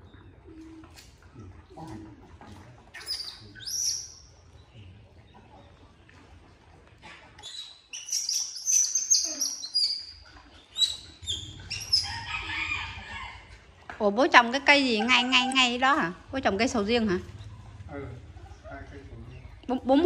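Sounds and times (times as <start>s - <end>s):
birds chirping: 2.9s - 20.0s.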